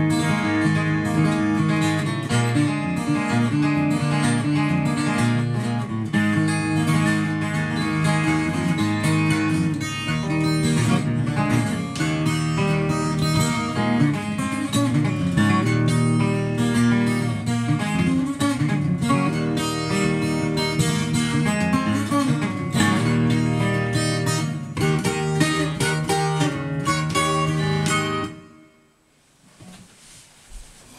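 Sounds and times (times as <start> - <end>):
twelve-string acoustic guitar picking: 0.0 - 28.9.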